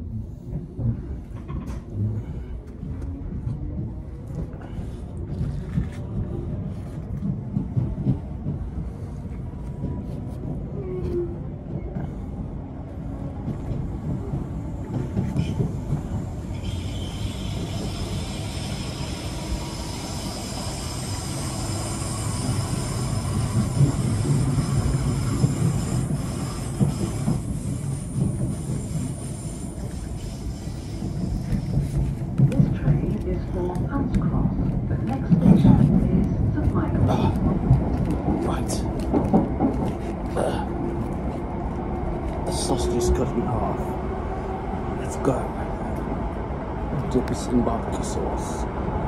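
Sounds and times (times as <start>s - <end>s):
train wheels rumbling on track: 0.0s - 49.0s.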